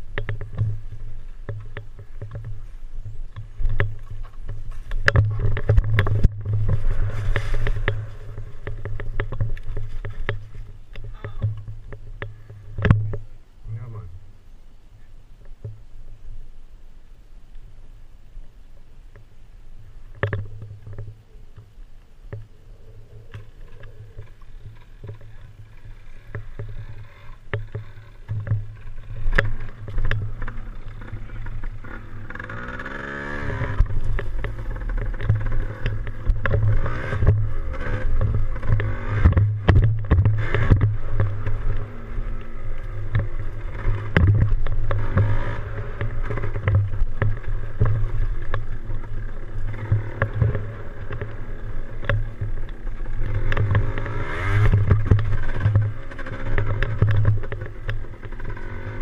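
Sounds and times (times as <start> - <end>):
sharp knocks and rattles: 0.0 - 13.3, 20.1 - 59.0
motorcycle engine droning: 0.0 - 59.0.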